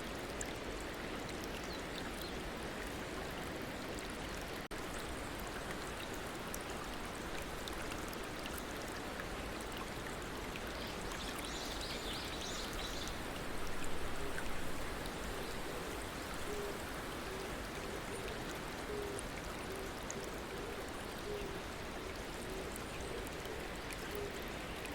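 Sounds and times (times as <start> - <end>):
water flowing over stones: 0.0 - 24.9.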